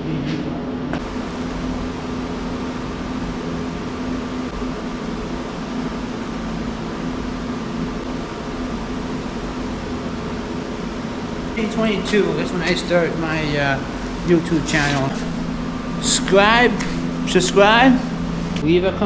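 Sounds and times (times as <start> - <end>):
machine running with low drone: 0.0 - 19.0.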